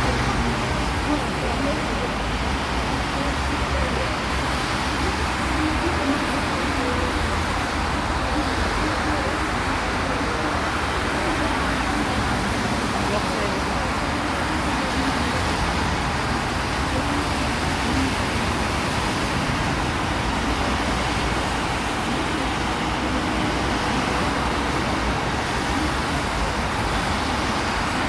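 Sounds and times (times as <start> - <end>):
cars passing on busy street: 0.0 - 28.0.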